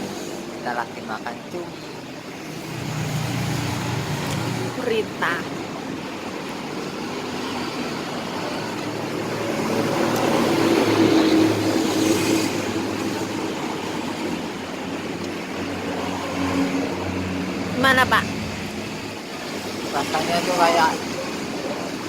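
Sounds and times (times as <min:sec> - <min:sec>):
street traffic noise: 0:00.0 - 0:22.0
vehicle passing: 0:01.4 - 0:22.0.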